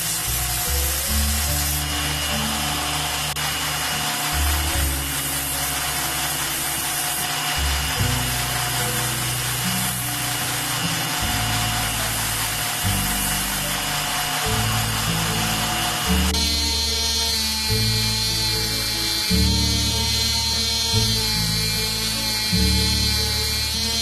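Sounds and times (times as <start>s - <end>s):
background music with bass line: 0.0s - 24.0s
power grinder on steel: 0.0s - 24.0s.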